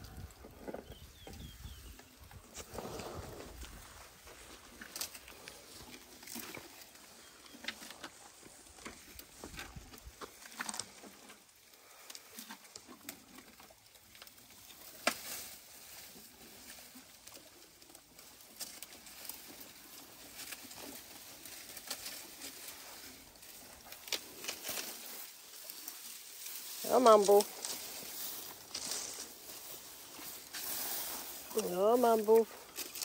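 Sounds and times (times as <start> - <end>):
twigs and leaves crackling: 0.0 - 33.0.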